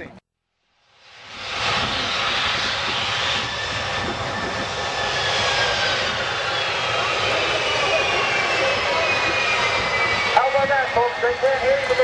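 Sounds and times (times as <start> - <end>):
high turbine whine: 0.7 - 12.0
jet engines rumbling: 0.8 - 12.0.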